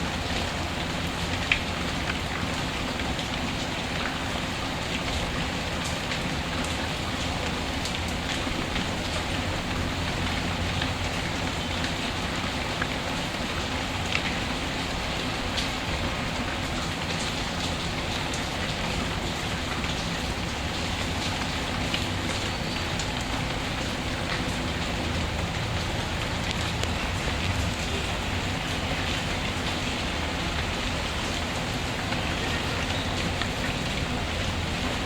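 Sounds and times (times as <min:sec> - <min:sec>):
heavy rain hiss: 0:00.0 - 0:35.0.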